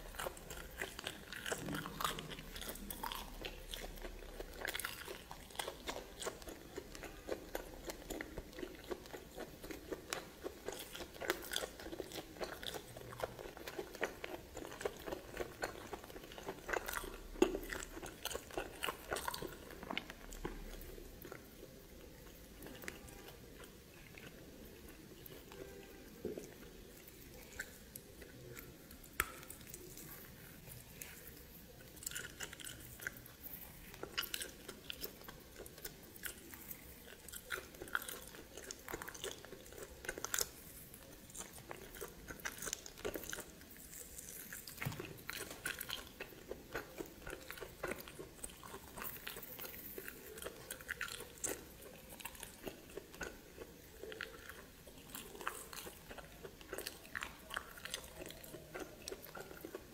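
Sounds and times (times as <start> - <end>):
person chewing with crunches: 0.0 - 59.9.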